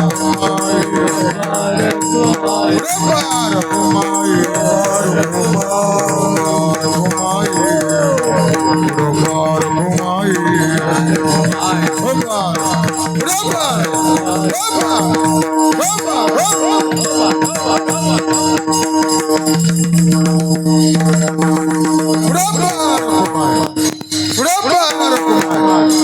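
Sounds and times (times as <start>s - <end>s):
gliding singing voices: 0.0s - 26.0s
held drone tones: 0.0s - 26.0s.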